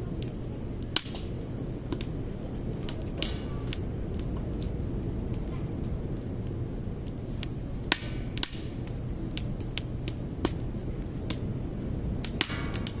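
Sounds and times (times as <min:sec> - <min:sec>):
flame rushing: 0:00.0 - 0:13.0
wood fire crackling and popping: 0:00.0 - 0:13.0.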